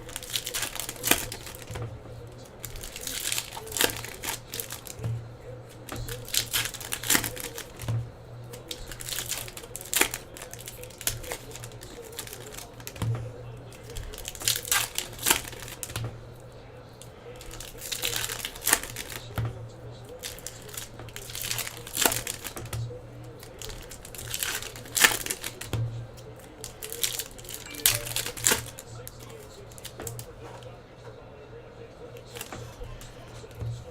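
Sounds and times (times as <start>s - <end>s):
foil wrappers crinkling and tearing: 0.0s - 16.2s, 17.3s - 19.4s, 20.0s - 30.7s, 32.2s - 33.9s
cards being handled: 0.0s - 16.3s, 17.3s - 30.7s, 32.1s - 33.9s.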